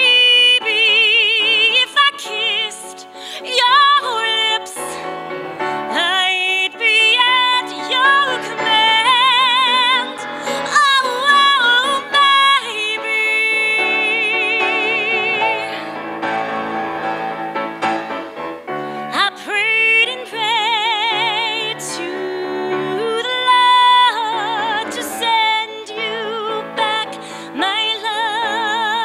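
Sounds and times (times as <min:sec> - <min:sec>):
woman singing with vibrato: 0:00.0 - 0:16.4, 0:19.0 - 0:29.0
grand piano accompaniment: 0:00.0 - 0:29.0.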